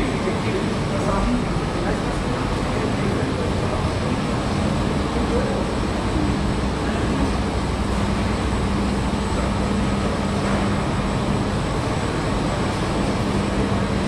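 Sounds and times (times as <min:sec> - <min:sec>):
factory machinery hum: 0:00.0 - 0:14.0.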